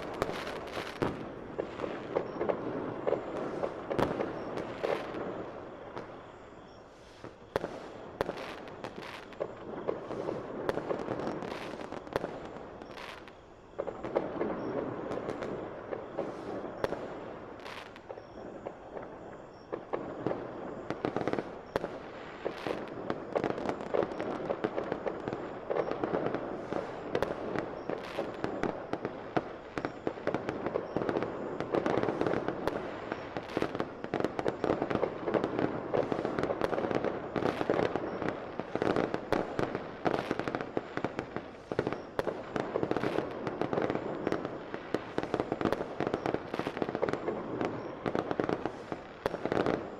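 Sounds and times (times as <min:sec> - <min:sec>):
fireworks crackling and popping: 0:00.0 - 0:49.9.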